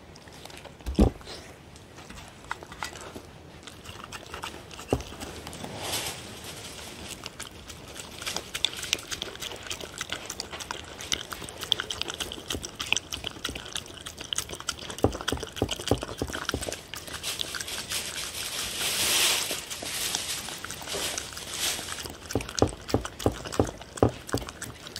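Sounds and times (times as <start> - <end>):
dog lapping and chewing: 0.0 - 24.9.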